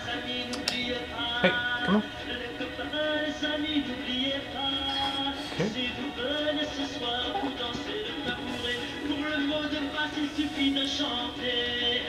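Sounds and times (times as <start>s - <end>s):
children's song playing: 0.0s - 12.0s.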